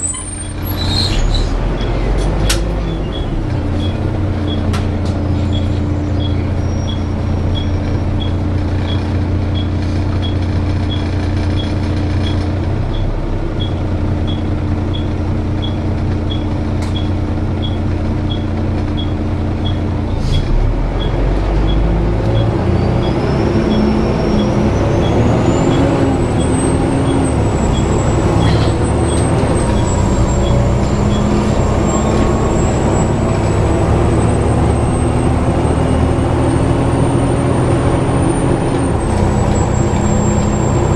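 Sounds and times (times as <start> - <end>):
bus diesel engine idling: 0.0 - 40.9.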